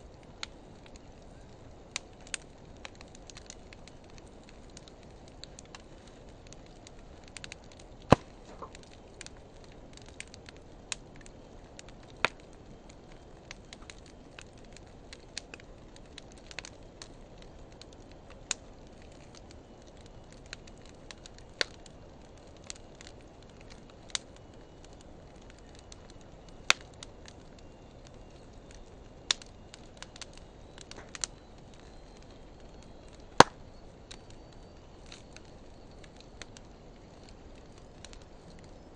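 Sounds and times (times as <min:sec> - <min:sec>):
fire hissing: 0:00.0 - 0:38.9
wood fire crackling and popping: 0:00.0 - 0:38.9.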